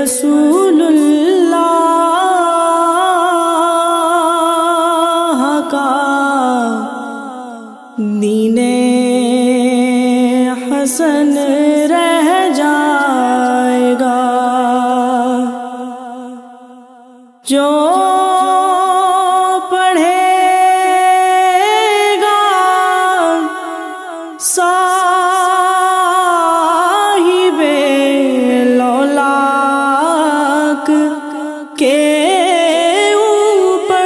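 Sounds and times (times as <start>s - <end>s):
woman singing a cappella: 0.0s - 34.0s.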